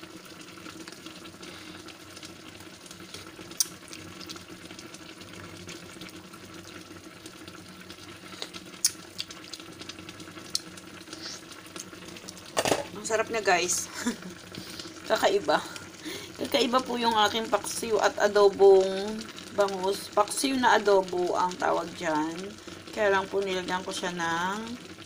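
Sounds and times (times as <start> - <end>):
broth bubbling in a pan: 0.0 - 25.0.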